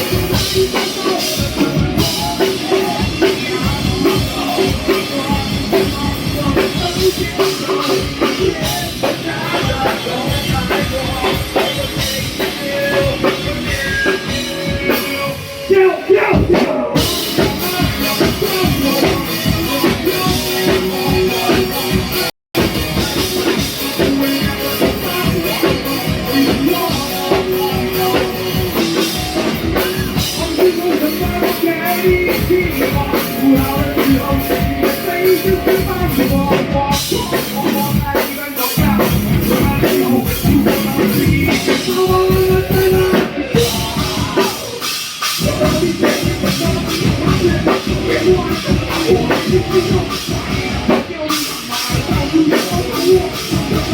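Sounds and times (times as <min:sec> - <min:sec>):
drum kit beat: 0:00.0 - 0:53.9
live rock band playing: 0:00.0 - 0:53.9.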